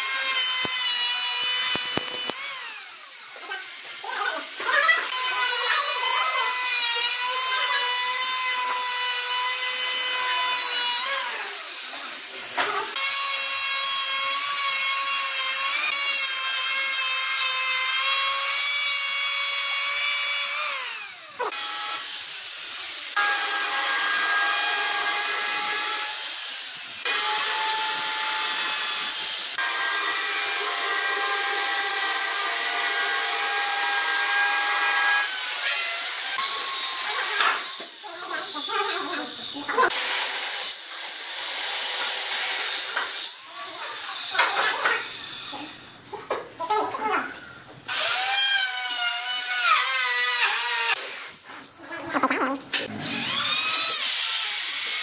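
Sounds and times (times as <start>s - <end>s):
electric router cutting wood: 0.0s - 45.8s, 47.9s - 51.2s, 52.8s - 55.0s
high-pitched whining power tool: 0.0s - 45.8s, 52.8s - 55.0s.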